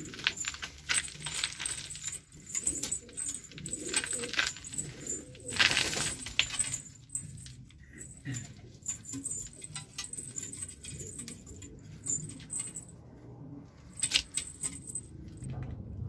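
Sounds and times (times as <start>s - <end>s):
pigeons clicking on wooden boards: 0.0s - 12.9s, 13.9s - 15.0s.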